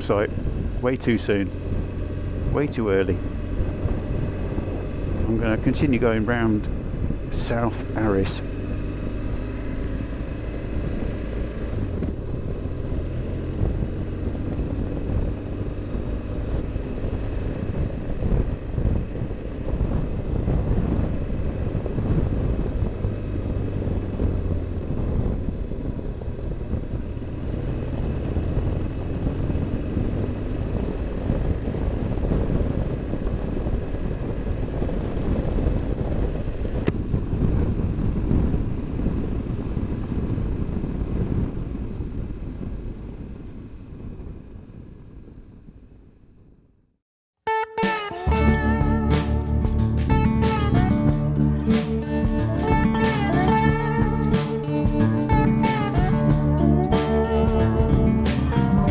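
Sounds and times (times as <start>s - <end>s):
motorcycle engine running: 0.0s - 41.9s, 48.2s - 58.9s
wind and road noise: 0.0s - 46.8s, 48.2s - 58.9s.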